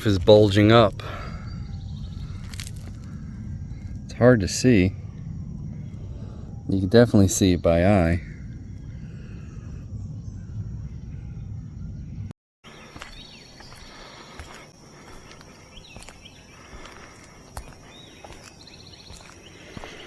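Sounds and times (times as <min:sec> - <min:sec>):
bird chirps: 0:00.0 - 0:20.0
insect drone: 0:00.0 - 0:20.0
wind rumbling on microphone: 0:00.0 - 0:20.0.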